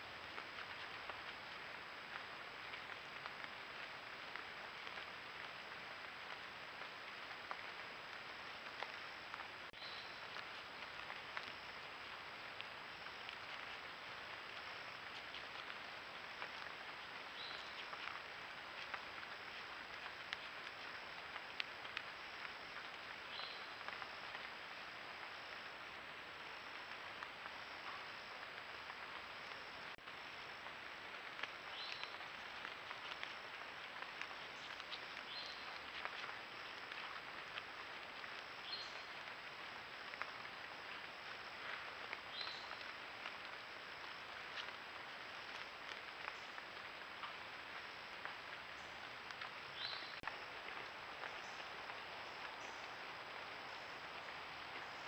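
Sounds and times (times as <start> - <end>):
insect chirp: 0.0 - 55.0.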